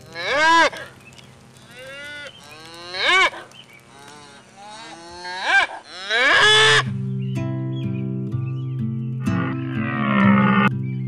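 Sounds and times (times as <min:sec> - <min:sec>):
farm animal calling: 0:00.0 - 0:07.3, 0:09.2 - 0:10.8.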